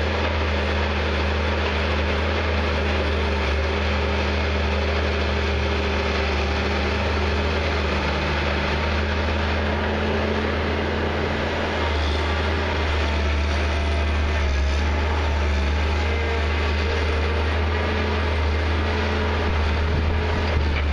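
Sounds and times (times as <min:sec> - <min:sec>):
diesel engine droning: 0:00.0 - 0:20.9.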